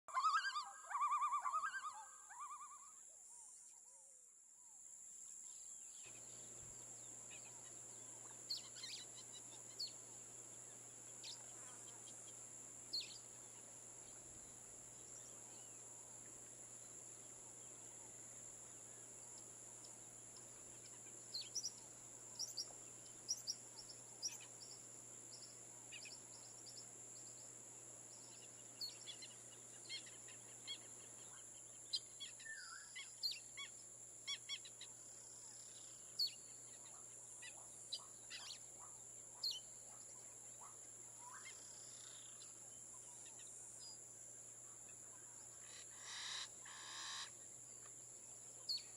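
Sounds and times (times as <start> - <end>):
faint bird chirps: 0.1 - 4.8, 5.5 - 15.9, 16.8 - 47.9, 48.5 - 48.9
background hiss: 2.9 - 48.9.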